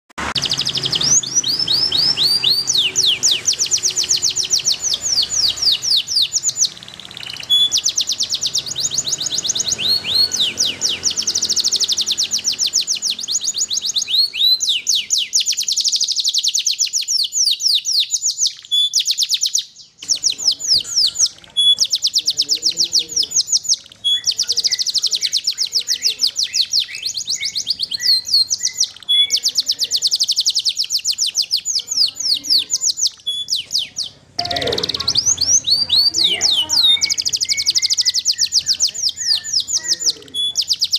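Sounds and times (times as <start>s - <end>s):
canary singing trills: 0.2s - 40.9s.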